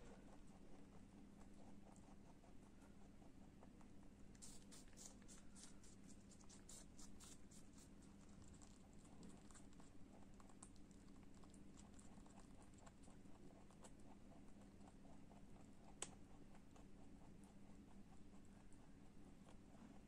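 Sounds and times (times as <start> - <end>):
rabbit crunching apple: 0.0 - 20.0.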